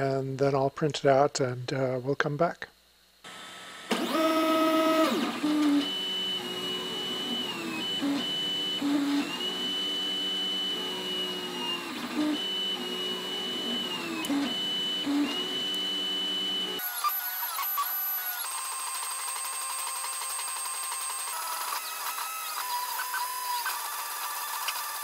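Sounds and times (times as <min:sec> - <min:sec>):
printer stepper motors whining: 0:03.3 - 0:25.0.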